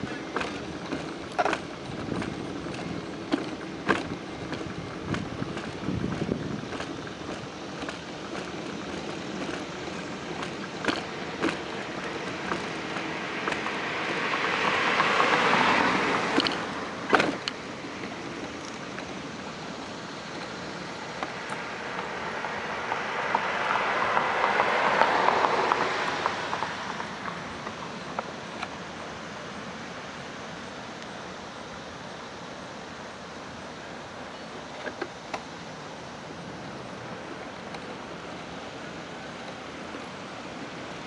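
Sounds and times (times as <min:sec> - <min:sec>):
steady traffic hiss: 0:00.0 - 0:41.0
vehicles passing: 0:00.0 - 0:41.0.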